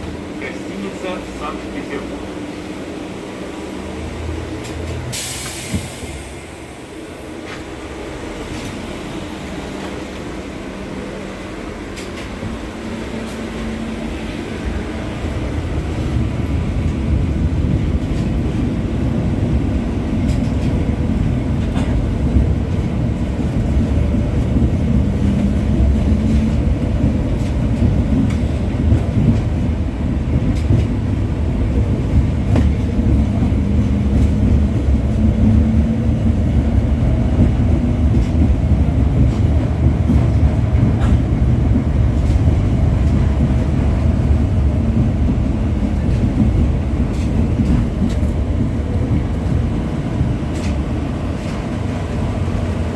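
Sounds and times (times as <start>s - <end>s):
tram wheels rumbling on rails: 0.0s - 52.9s.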